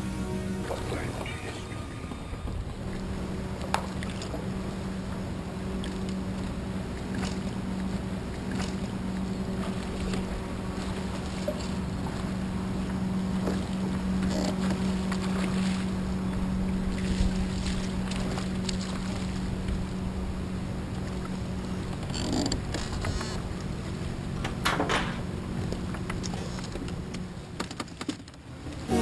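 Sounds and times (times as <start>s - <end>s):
water around boat hull: 0.0s - 29.0s.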